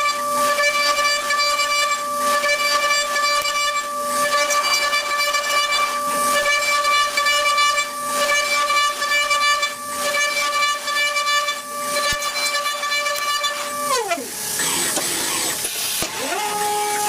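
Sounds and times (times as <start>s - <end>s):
machine spindle whine: 0.0s - 17.0s.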